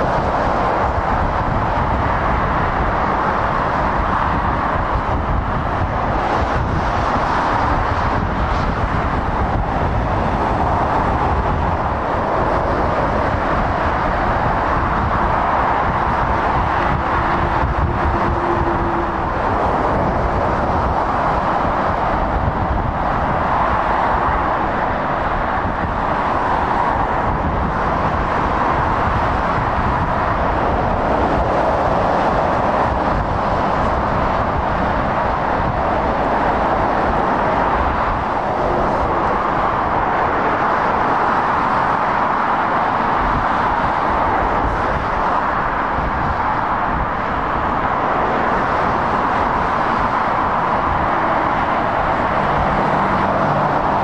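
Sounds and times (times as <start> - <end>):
motorway traffic roar: 0.0 - 54.0.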